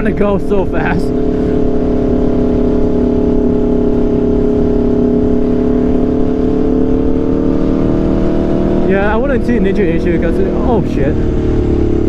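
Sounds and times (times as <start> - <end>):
motorcycle engine at speed: 0.0 - 12.0
wind noise: 0.0 - 12.0.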